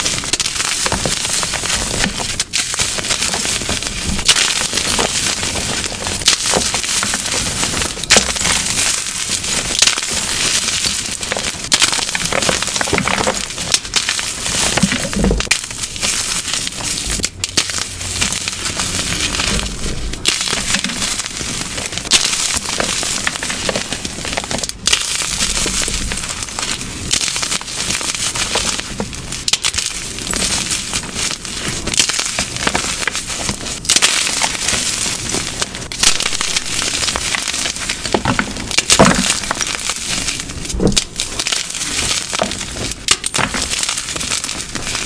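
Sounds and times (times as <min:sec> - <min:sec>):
chalk crunching by hand: 0:00.0 - 0:45.0.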